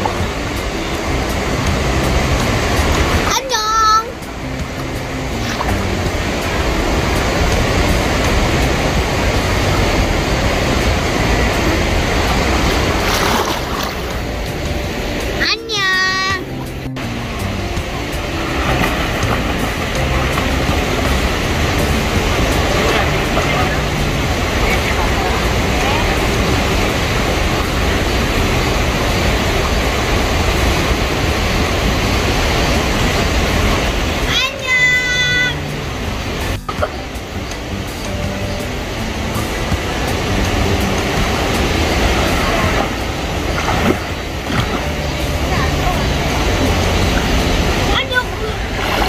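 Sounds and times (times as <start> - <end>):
water splashing in a stream: 0.0 - 49.0.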